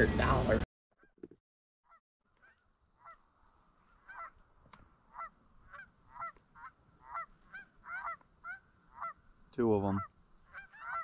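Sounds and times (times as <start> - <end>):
geese honking: 1.9 - 11.0.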